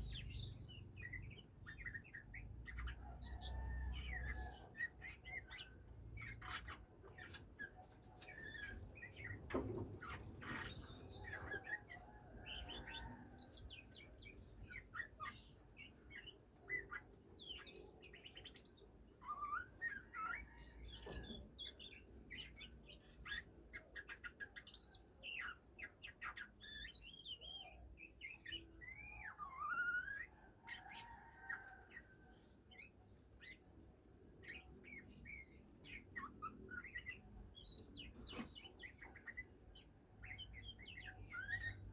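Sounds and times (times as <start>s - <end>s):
bird chirping and singing: 0.0s - 41.9s.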